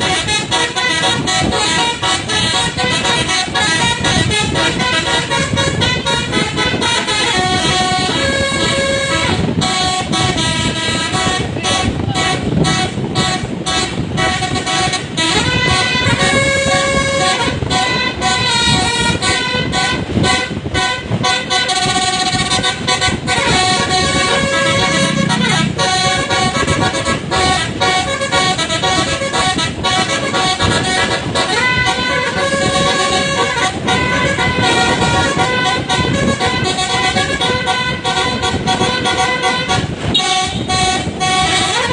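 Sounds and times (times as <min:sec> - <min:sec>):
multi-tone bus horn tune: 0:00.0 - 0:41.9.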